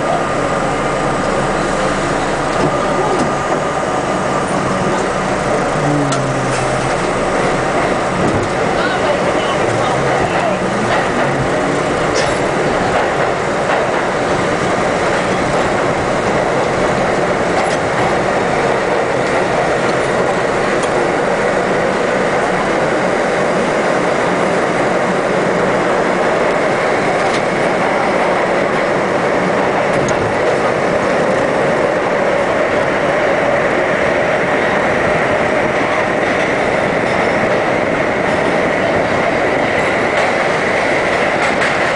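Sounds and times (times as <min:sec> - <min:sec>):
subway train wheels rumbling: 0:00.0 - 0:41.9.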